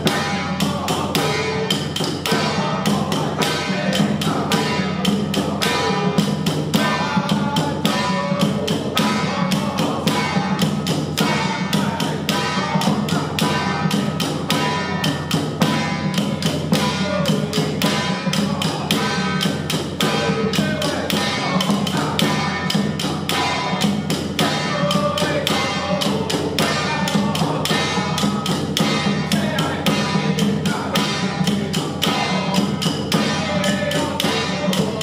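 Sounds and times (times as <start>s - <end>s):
quick clicking percussion: 0.0s - 35.0s
temple ritual music: 0.0s - 35.0s.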